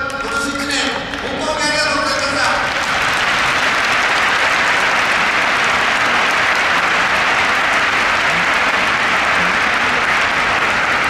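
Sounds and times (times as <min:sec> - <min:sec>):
stadium crowd applauding: 0:00.0 - 0:11.0.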